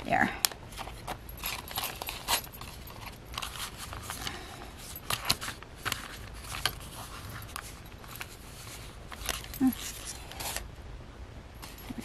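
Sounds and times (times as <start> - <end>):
paper pages rustling: 0.7 - 10.7.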